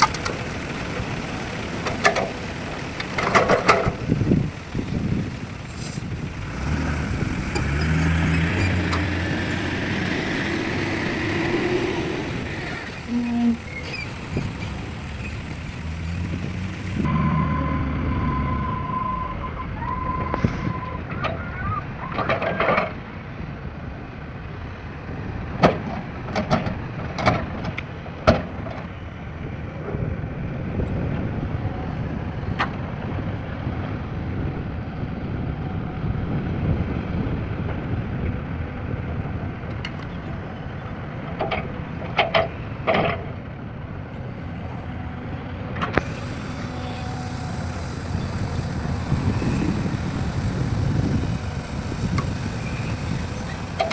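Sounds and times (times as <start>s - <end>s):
heavy diesel machinery running: 0.0s - 21.4s, 22.2s - 53.9s.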